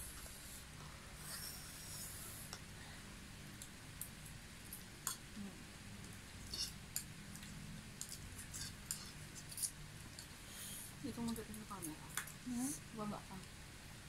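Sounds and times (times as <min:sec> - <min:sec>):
soft eating sounds: 0:00.0 - 0:13.6
low steady hum: 0:00.0 - 0:14.0.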